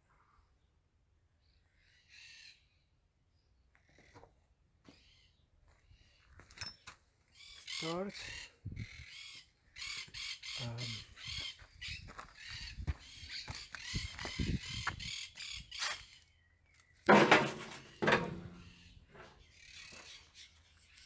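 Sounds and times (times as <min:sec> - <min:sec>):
birds calling: 0:03.7 - 0:21.0.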